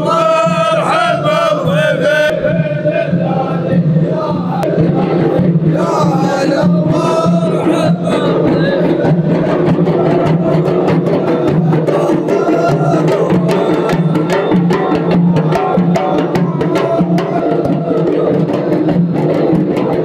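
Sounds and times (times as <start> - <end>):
hand drums beaten: 0.0 - 20.0.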